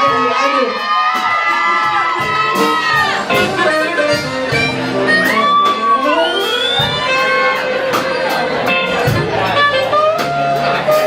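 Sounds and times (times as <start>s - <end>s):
instrumental music with sliding melody: 0.8s - 11.0s.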